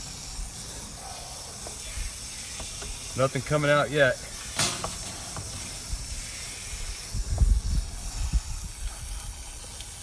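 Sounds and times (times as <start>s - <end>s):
hose water hissing: 0.0s - 10.0s.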